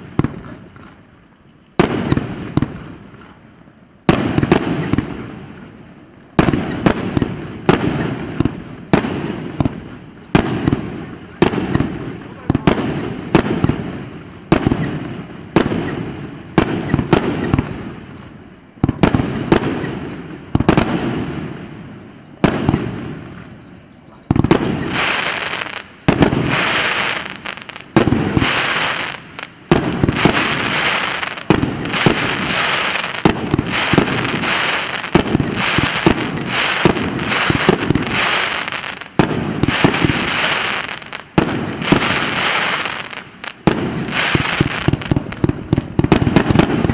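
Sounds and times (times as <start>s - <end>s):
fireworks launches and bursts: 0.0s - 1.0s, 1.8s - 18.2s, 18.8s - 23.6s, 24.3s - 46.9s
fireworks crackling: 0.0s - 46.9s.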